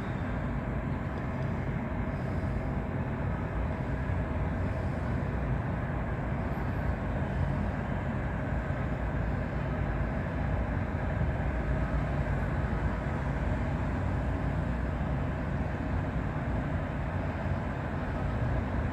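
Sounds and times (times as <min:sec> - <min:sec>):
airport background noise: 0:00.0 - 0:18.9
distant jet taxiing rumble: 0:00.0 - 0:18.9
faint turbine whine: 0:00.0 - 0:18.9.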